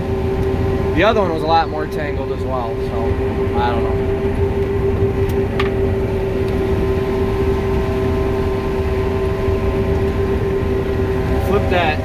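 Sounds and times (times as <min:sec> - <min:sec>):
combine harvester whine and rumble: 0:00.0 - 0:12.0.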